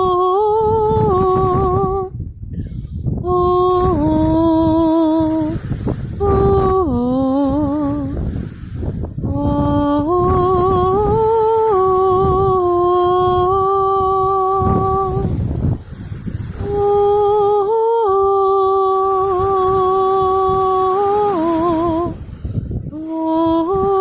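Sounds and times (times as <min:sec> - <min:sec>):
woman humming with vibrato: 0:00.0 - 0:02.2, 0:03.2 - 0:05.6, 0:06.2 - 0:08.2, 0:09.2 - 0:15.4, 0:16.6 - 0:22.2, 0:22.9 - 0:24.0.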